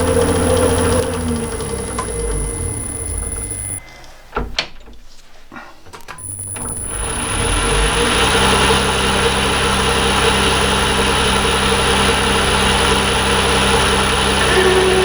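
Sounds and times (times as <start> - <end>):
lathe hum with high whine: 0.0 - 3.8, 6.2 - 15.0.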